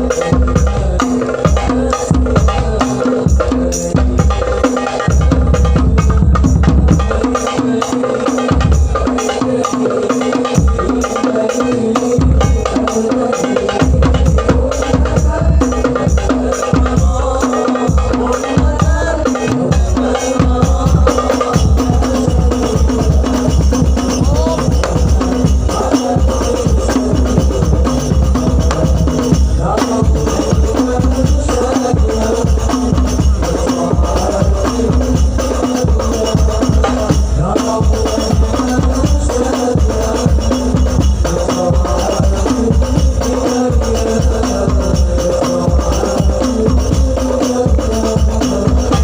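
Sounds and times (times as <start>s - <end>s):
steady drum beat: 0.0s - 49.0s.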